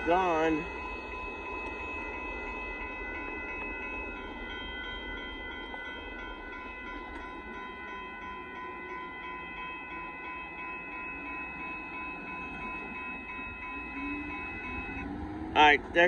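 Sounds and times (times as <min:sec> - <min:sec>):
crossing warning bells ringing: 0:00.0 - 0:16.0
train rumbling on tracks: 0:00.0 - 0:16.0.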